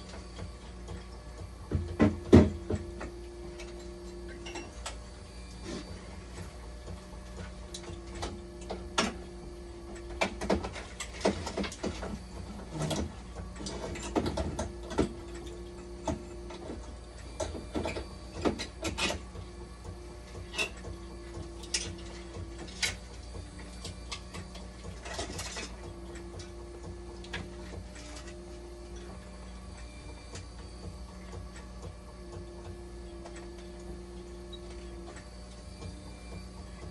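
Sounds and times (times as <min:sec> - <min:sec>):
machine low hum: 0:00.0 - 0:36.9.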